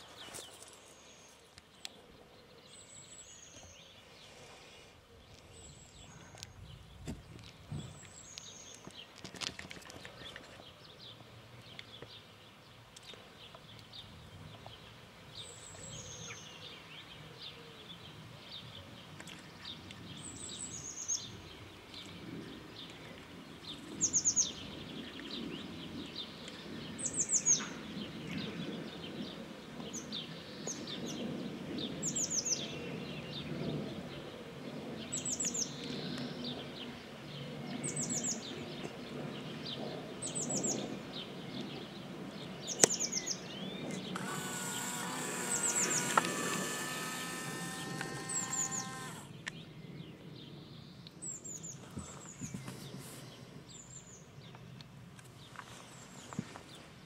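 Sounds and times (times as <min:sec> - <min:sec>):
birds chirping: 0:00.0 - 0:34.3, 0:35.0 - 0:56.9.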